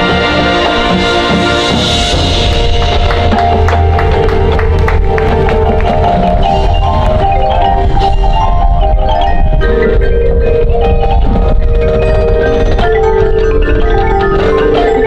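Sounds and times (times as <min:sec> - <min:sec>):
marching band held chords: 0:00.0 - 0:15.0
marimba and glockenspiel runs: 0:00.0 - 0:15.0.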